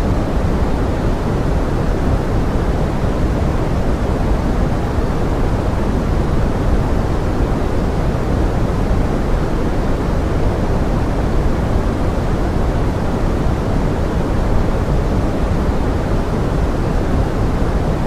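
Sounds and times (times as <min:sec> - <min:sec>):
steady pink noise hiss: 0:00.0 - 0:18.0.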